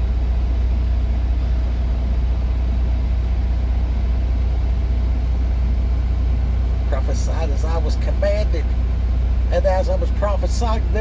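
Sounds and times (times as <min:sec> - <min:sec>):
car moving low rumble: 0:00.0 - 0:11.0.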